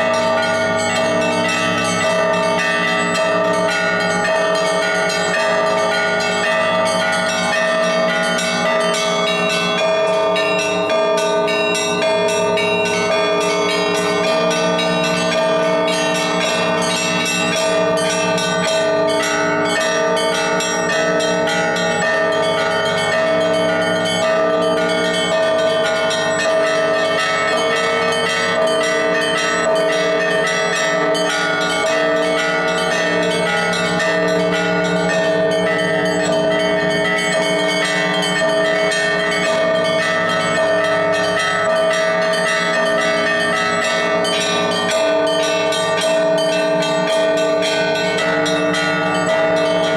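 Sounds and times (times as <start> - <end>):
hum of large bells: 0.0 - 49.9
small bells struck rapidly: 0.0 - 49.9.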